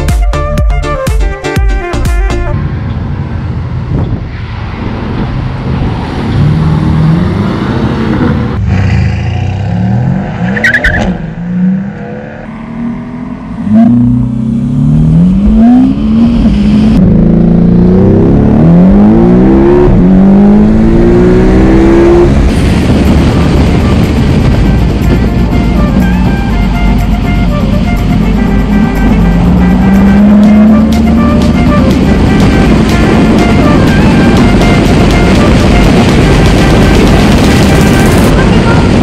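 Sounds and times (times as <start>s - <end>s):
sports car engine accelerating: 2.6s - 38.6s.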